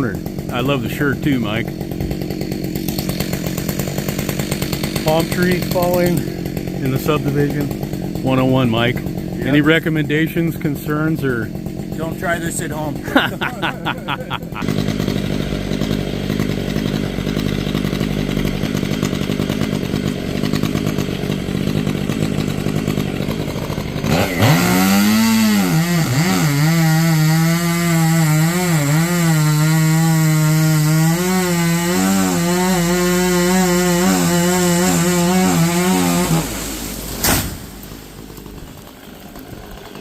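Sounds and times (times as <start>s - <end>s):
chainsaw cutting wood: 0.0s - 40.0s
engine running: 0.0s - 40.0s.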